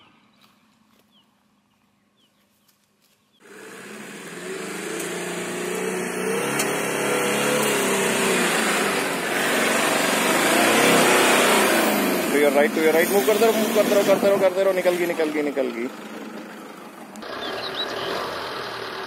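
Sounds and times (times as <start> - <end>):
diesel engine revving hard: 3.4 - 19.0.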